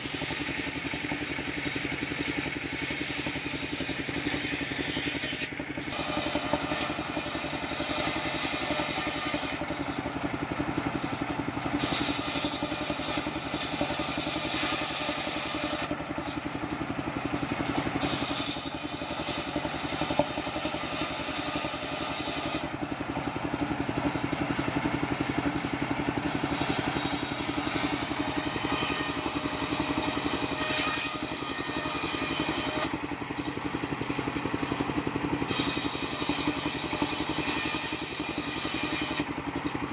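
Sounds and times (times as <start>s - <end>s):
engine droning: 0.0s - 39.9s
saw blade cutting wood: 0.0s - 39.9s.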